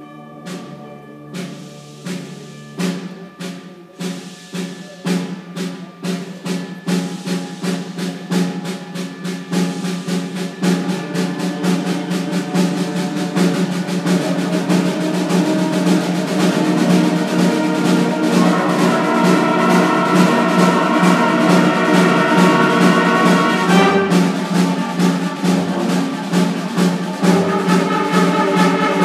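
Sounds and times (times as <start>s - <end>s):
concert band playing: 0.0s - 29.0s
drum strokes: 0.5s - 29.0s.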